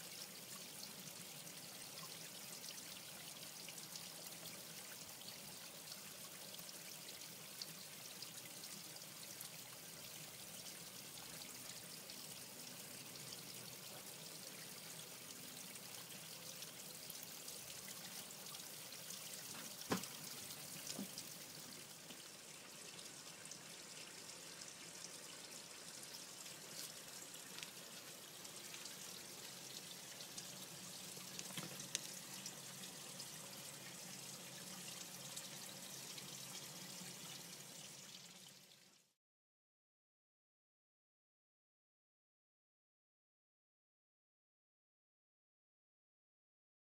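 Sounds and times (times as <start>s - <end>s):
water trickling into pond: 0.0s - 39.2s.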